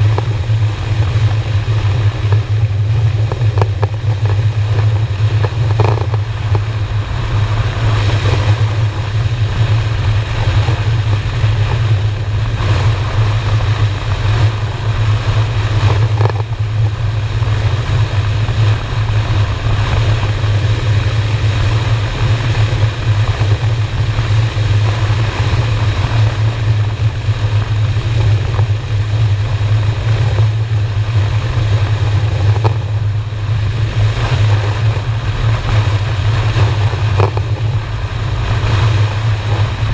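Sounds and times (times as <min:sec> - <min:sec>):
motorcycle engine cruising: 0:00.0 - 0:39.9
wind and road rush on microphone: 0:00.0 - 0:39.9.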